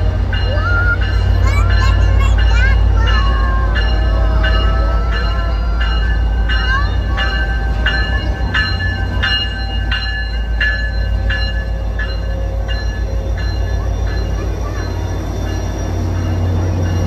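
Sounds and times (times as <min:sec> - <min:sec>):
locomotive bell ringing: 0:00.0 - 0:17.0
train rolling by: 0:00.0 - 0:17.0.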